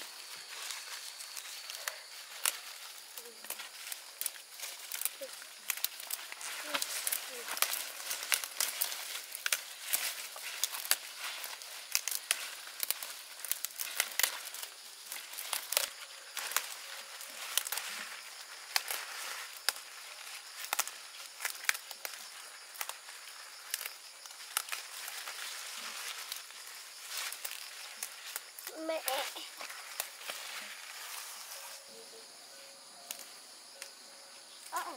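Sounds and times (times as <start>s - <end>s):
leaves rustling: 0.0s - 34.9s
plant stems snapping: 1.4s - 28.7s, 33.1s - 33.9s.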